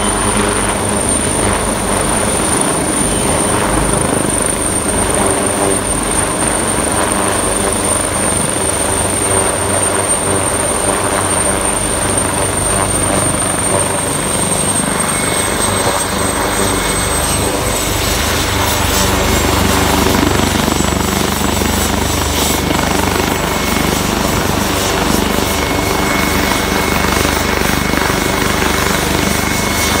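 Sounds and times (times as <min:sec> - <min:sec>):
helicopter engine and rotors: 0:00.0 - 0:30.0
high turbine whine: 0:00.0 - 0:30.0.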